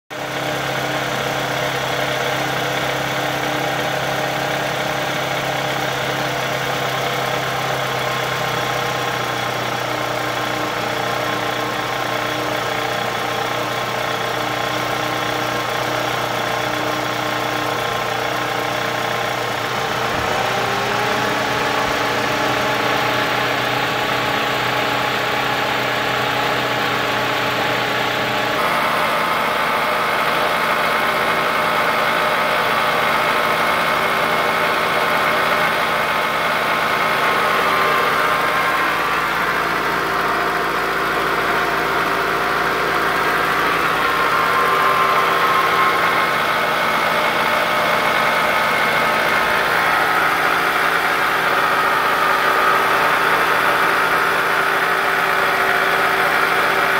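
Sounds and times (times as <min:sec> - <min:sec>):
car engine idling with mechanical noise: 0:00.1 - 0:56.9.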